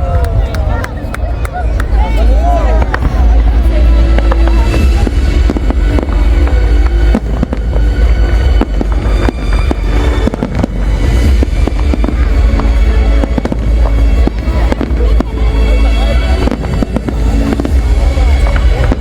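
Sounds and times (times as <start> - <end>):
deep fireworks rumble: 0.0 - 19.0
fireworks bangs and crackles: 0.0 - 19.0
music playing: 0.0 - 19.0.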